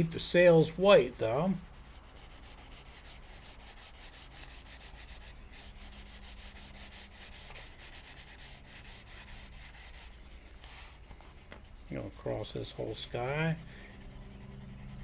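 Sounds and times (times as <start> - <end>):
crayon scribbling on paper: 0.6 - 15.0.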